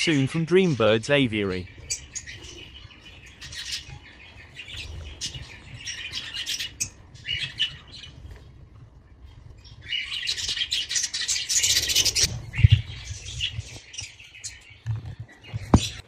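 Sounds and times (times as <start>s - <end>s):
budgerigars chirping and chattering: 0.0s - 16.0s.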